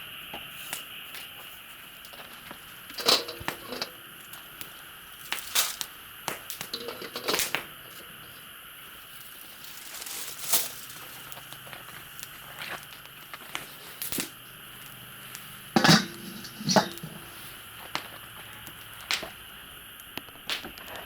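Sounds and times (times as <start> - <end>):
insects chirring: 0.0 - 21.0
sharp crackles and crunches: 0.6 - 21.0.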